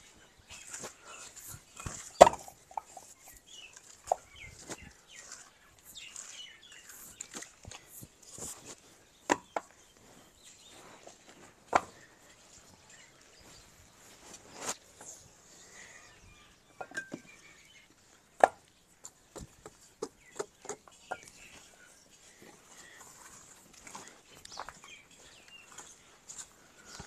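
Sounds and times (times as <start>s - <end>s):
birds chirping faintly: 0.0s - 27.0s.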